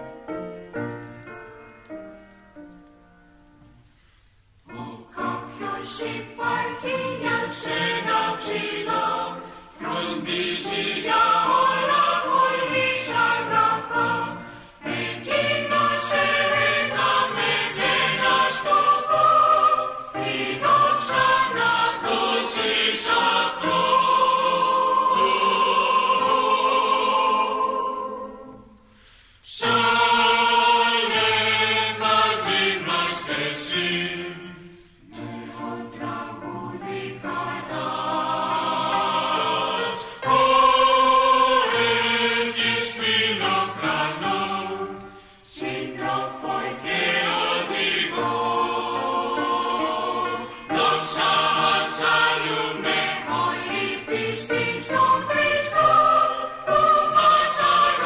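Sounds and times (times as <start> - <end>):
choir singing: 4.6 - 58.0.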